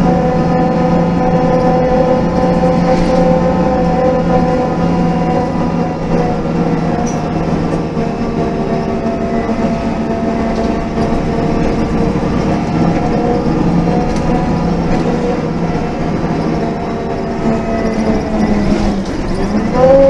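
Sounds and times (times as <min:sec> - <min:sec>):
bus engine running: 0:00.0 - 0:20.0
rumbling road noise: 0:00.0 - 0:20.0.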